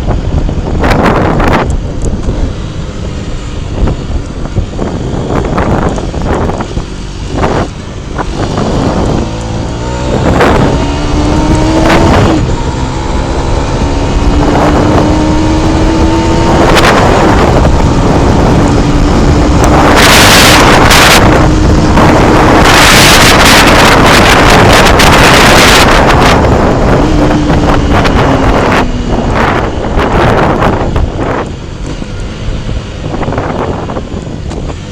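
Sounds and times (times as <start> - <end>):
motorcycle engine accelerating: 0.0 - 34.9
wind buffeting microphone: 0.0 - 34.9.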